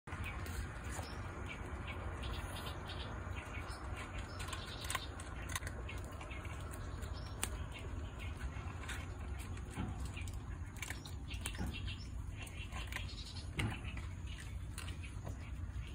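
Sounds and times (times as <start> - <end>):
outdoor background hum: 0.1 - 15.9.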